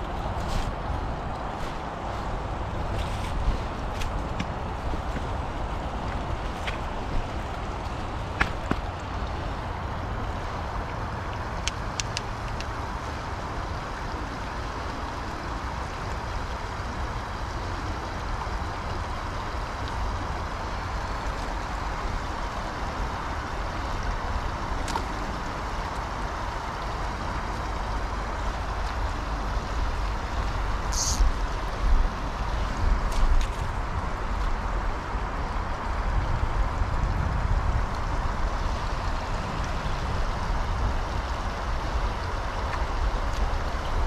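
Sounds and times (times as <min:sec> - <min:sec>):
stream water rushing: 0:00.0 - 0:44.0
wind rumble on microphone: 0:00.0 - 0:44.0.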